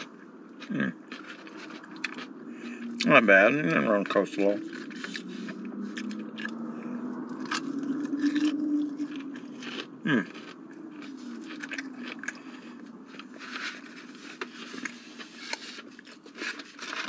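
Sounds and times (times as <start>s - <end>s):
chewing food: 0.0s - 17.0s
low hum: 0.0s - 17.0s.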